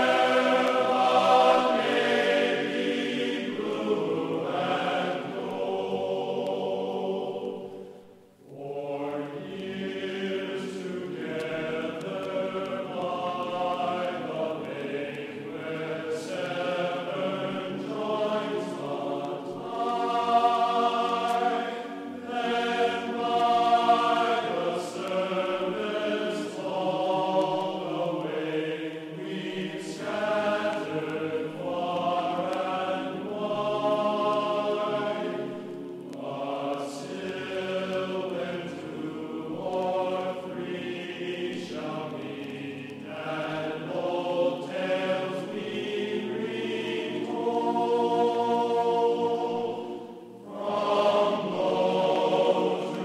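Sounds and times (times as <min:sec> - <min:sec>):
background music with singing: 0:00.0 - 0:53.0.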